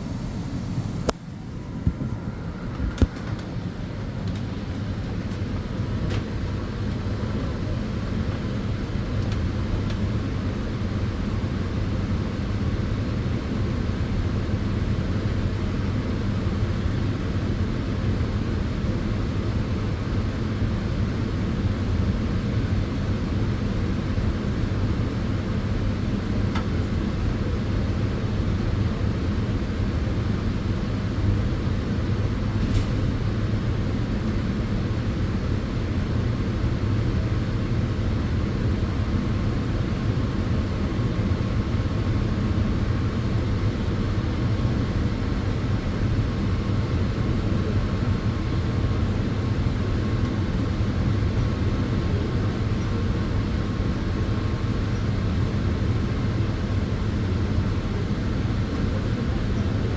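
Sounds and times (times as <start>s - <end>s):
cooling fans whirring: 0.0s - 59.9s.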